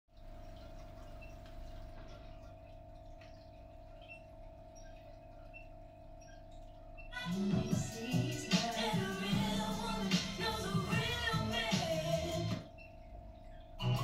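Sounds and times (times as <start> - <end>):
constant mid-pitched tone: 0.1 - 14.0
faint electrical hum: 0.1 - 14.0.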